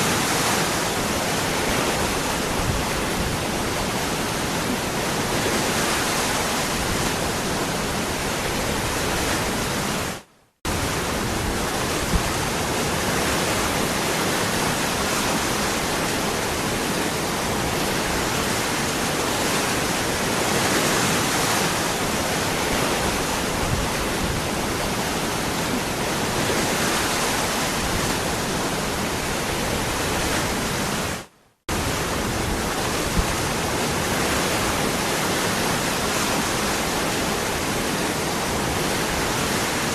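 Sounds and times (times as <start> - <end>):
waterfall rushing: 0.0 - 10.1, 10.7 - 39.9.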